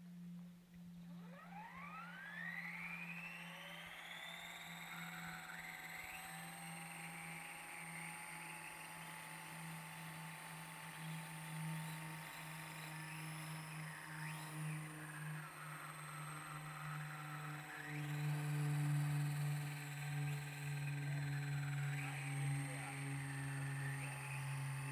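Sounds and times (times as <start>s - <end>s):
low motor hum: 0.0s - 24.9s
model helicopter rotor whine: 0.2s - 24.9s.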